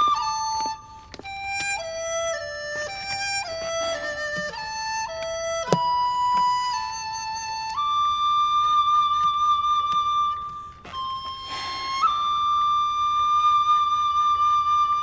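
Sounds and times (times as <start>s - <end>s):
solo flute long notes: 0.0s - 15.0s.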